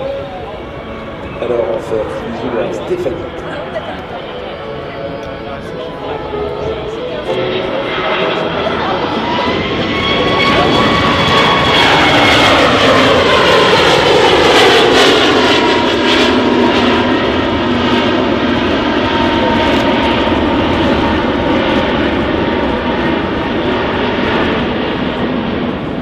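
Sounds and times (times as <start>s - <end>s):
jet airliner engines roaring: 0.0s - 26.0s.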